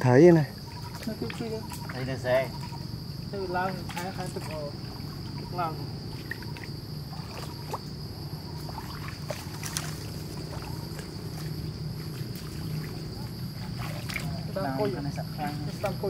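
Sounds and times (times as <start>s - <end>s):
insects droning: 0.0s - 16.0s
pulsing insect chirp: 0.0s - 16.0s.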